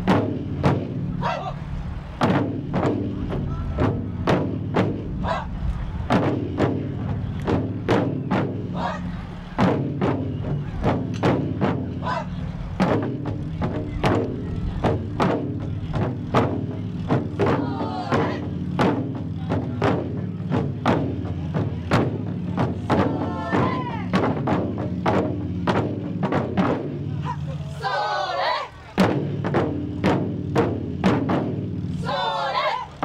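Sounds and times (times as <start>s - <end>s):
taiko drums in steady rhythm: 0.0s - 27.6s, 29.0s - 32.3s.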